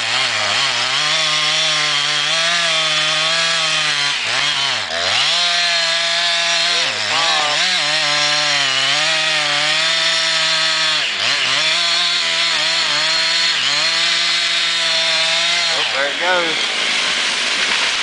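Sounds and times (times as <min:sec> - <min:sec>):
chainsaw cutting wood: 0:00.0 - 0:18.0.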